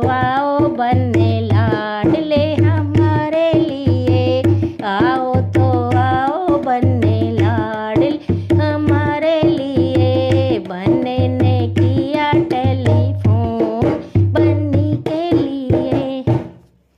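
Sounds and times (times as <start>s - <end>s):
person singing folk song: 0.0s - 16.5s
hand drum beat: 0.0s - 16.6s.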